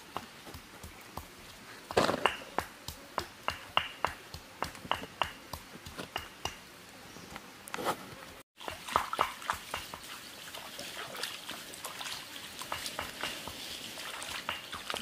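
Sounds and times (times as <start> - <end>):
rustle: 0.0 - 15.0.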